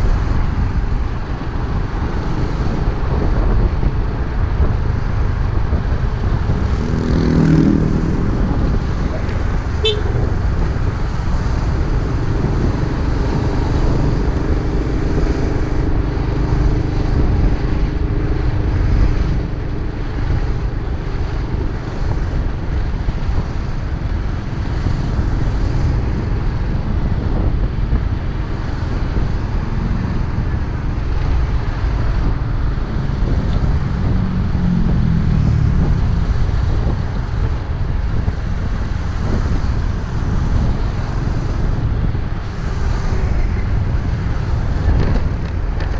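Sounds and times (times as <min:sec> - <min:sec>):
motorcycle engine running: 0:00.0 - 0:45.9
wind buffeting microphone: 0:00.0 - 0:45.9.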